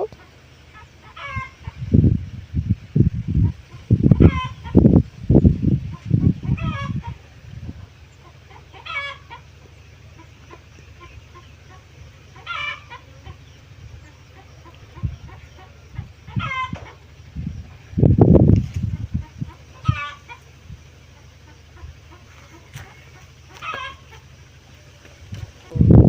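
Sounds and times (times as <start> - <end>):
chickens clucking: 0.0 - 2.2, 3.0 - 26.0
steady low hum: 0.0 - 26.0.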